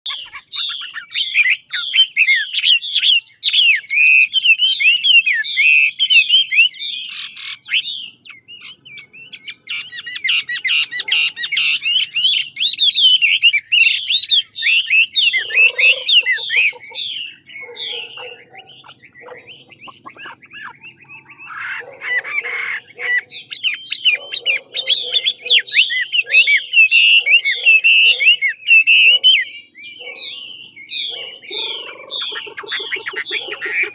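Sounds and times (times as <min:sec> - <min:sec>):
bird singing whistled phrases: 0:00.1 - 0:33.9.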